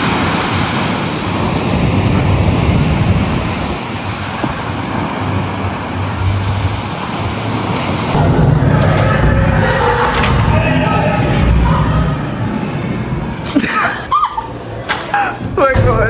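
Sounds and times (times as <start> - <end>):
ocean surf washing in: 0.0 - 16.0
wind buffeting microphone: 0.0 - 16.0.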